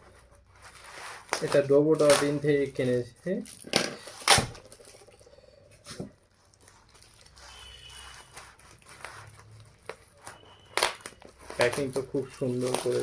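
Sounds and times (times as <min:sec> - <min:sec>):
parcel rustling: 0:00.0 - 0:13.0.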